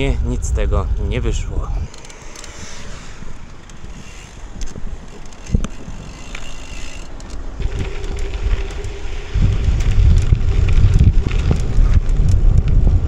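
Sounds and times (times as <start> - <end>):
wind noise on microphone: 0.0 - 13.0
bicycle tyres rolling: 1.2 - 13.0.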